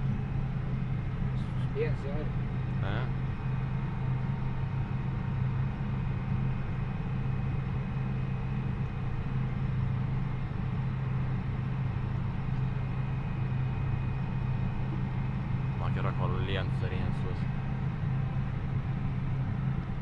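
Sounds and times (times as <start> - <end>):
faint steady whine: 0.0 - 20.0
tractor diesel engine running: 0.0 - 20.0.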